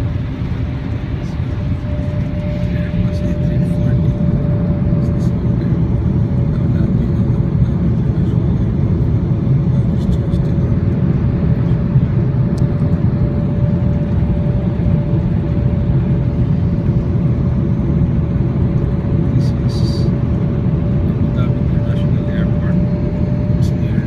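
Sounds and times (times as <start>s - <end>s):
airliner cabin engine noise: 0.0s - 24.0s
mid-pitched hum: 0.0s - 24.0s.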